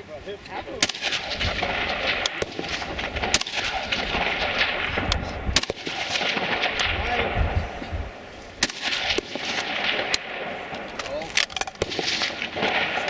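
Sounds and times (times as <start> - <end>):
low steady rumble: 0.0 - 13.0
rifle shots: 0.8 - 7.8, 8.6 - 13.0.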